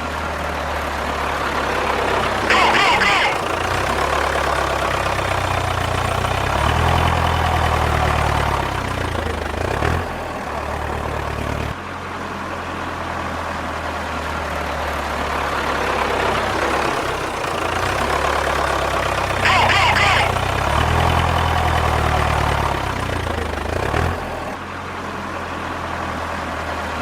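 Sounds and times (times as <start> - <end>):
tractor engine running and revving: 0.0 - 27.0.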